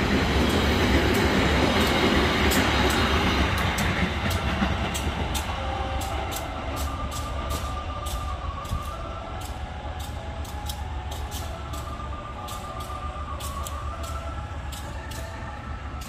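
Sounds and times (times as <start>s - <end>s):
diesel train engine idling: 0.0s - 16.0s.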